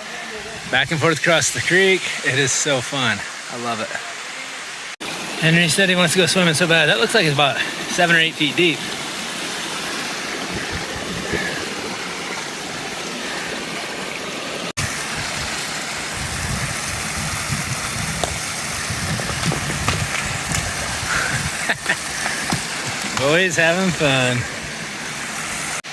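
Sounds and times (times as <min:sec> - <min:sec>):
creek water rushing: 0:00.0 - 0:25.9.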